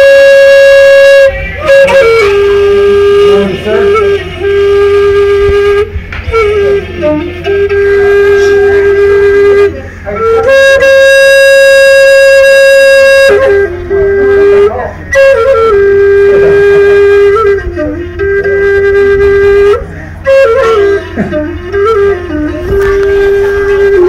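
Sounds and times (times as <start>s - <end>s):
wooden flute slow melody: 0.0s - 24.0s.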